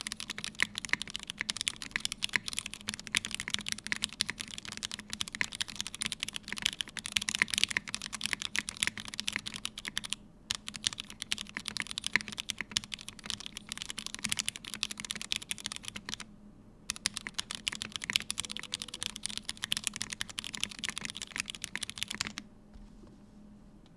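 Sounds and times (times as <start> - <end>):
typing on a mechanical keyboard: 0.0 - 16.2, 16.9 - 22.4.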